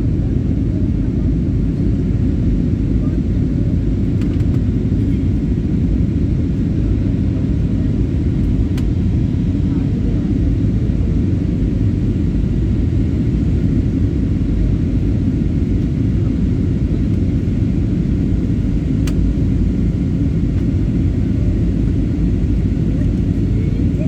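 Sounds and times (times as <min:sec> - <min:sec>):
jet engine cabin rumble: 0:00.0 - 0:24.0.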